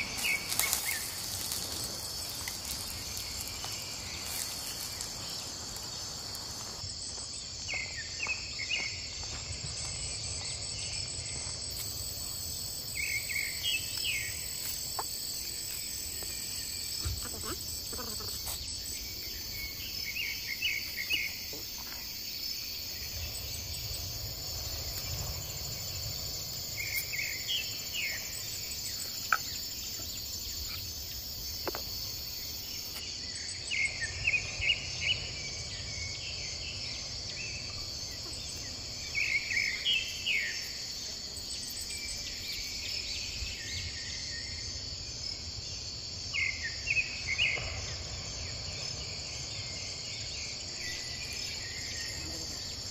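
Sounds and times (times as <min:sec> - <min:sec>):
insects chorus: 0:00.0 - 0:52.9.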